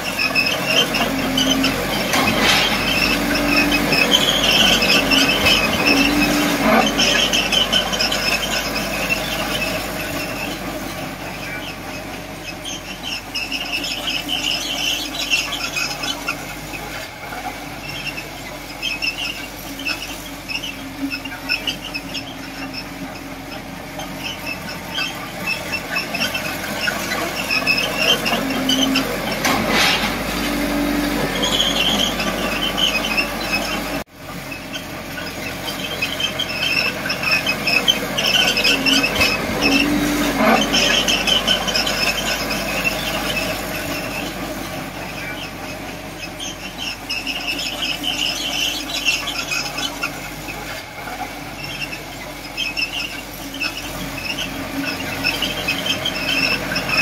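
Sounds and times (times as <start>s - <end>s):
bulldozer tracks squealing: 0.0s - 57.0s
diesel engine hum: 0.0s - 57.0s.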